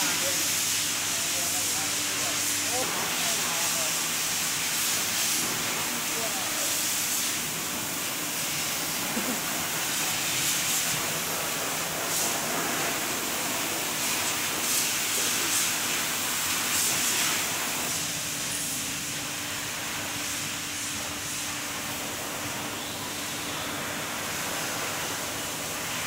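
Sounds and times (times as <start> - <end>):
workshop background hiss: 0.0 - 26.0.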